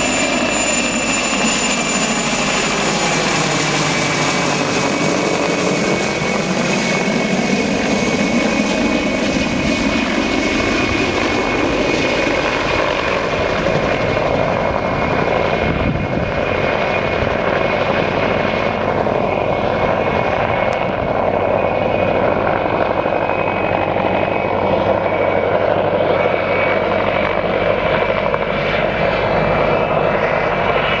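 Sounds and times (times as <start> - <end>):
helicopter engines whining: 0.0 - 31.0
helicopter rotor noise: 0.0 - 31.0.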